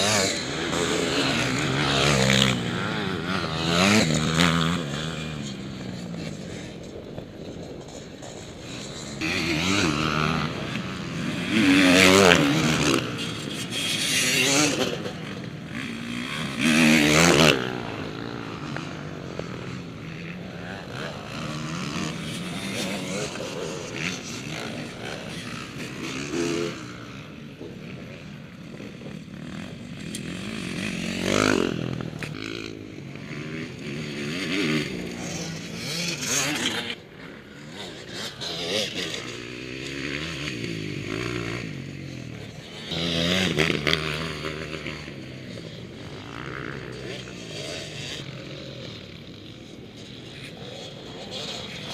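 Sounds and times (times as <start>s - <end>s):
motocross bikes racing past: 0.0s - 51.9s.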